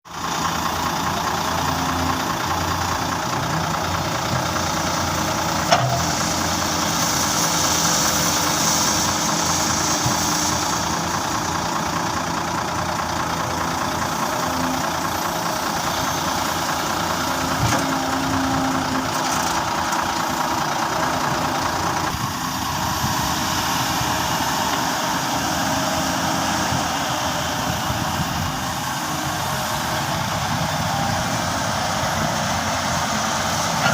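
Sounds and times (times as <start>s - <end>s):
excavator engine running: 0.1s - 33.9s.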